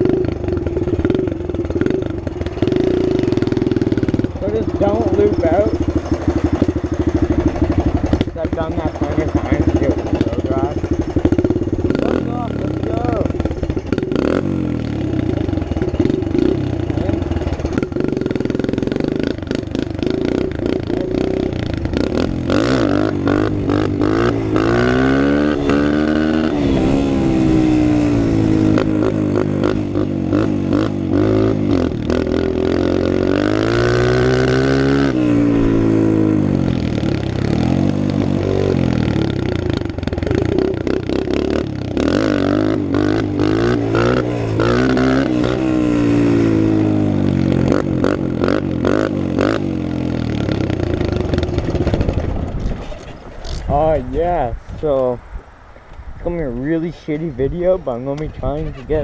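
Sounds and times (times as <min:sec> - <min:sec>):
rattling and clatter: 0:00.0 - 0:46.7, 0:50.2 - 0:53.7
dirt bike engine revving: 0:00.0 - 0:52.8.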